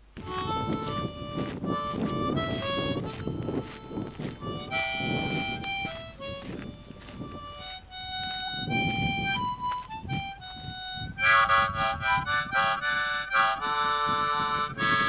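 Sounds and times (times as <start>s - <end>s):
harmonica melody: 0.0s - 15.0s
instrumental music: 0.0s - 15.0s.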